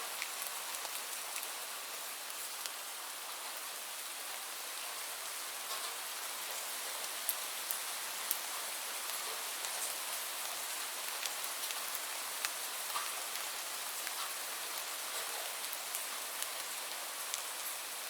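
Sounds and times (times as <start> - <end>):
steady rainfall hiss: 0.0 - 18.0.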